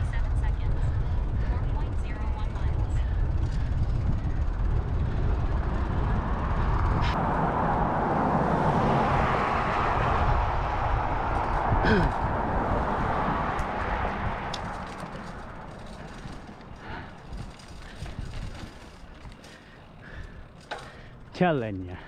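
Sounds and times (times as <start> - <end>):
wind rumbling on microphone: 0.0 - 21.3
vehicle passing: 0.0 - 22.0.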